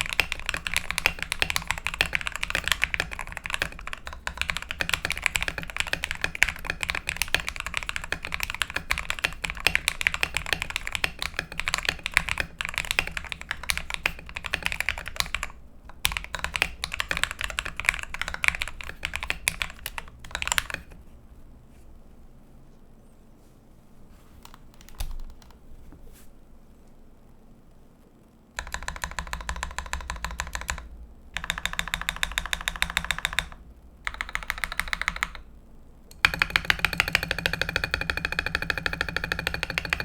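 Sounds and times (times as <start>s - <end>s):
fast typing on mechanical keyboard: 0.0s - 21.0s, 24.4s - 25.6s, 28.6s - 35.5s, 36.1s - 40.0s.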